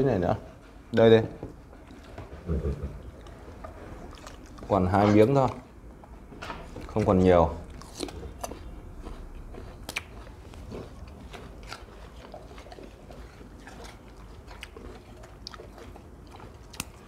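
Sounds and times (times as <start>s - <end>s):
dogs crunching jicama: 0.0s - 17.0s.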